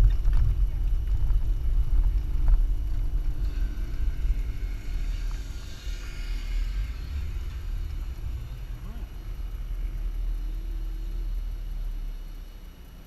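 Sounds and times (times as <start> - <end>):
faint hiss: 0.0 - 13.0
vehicle engine rumble: 0.0 - 13.0.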